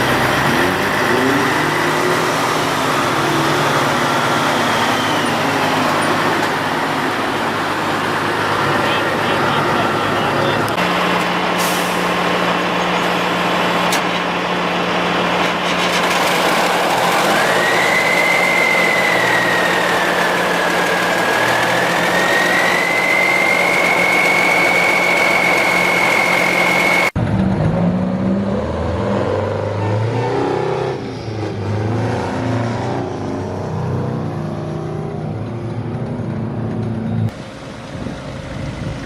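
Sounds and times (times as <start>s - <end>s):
engine revving: 0.0s - 37.0s
truck engine whining: 0.0s - 39.0s.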